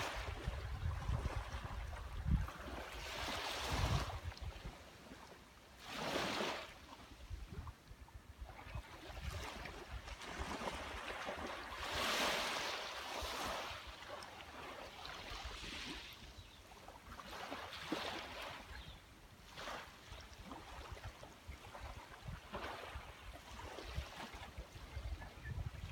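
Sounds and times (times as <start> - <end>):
small waves washing onto beach: 0.0 - 25.0.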